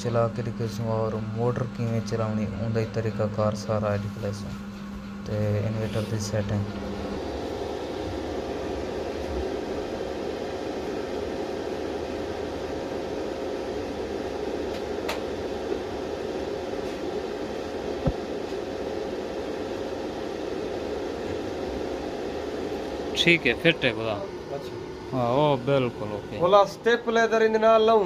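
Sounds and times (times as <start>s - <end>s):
cooling fan whirring: 0.0s - 28.0s
faint steady hum: 0.0s - 28.0s.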